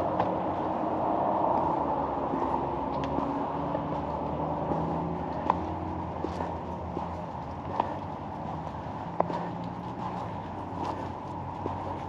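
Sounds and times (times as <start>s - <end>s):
vehicle engine and road hum: 0.0s - 12.0s.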